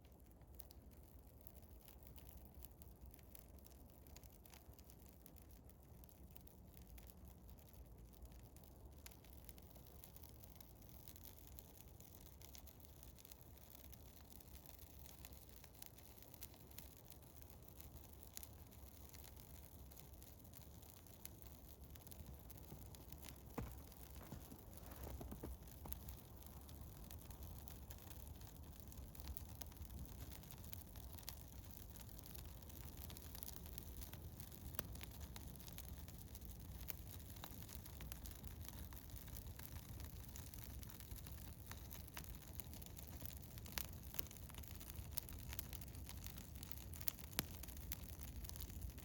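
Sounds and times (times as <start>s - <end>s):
wood fire crackling: 0.0s - 49.0s
fire pops and snaps: 6.3s - 49.0s.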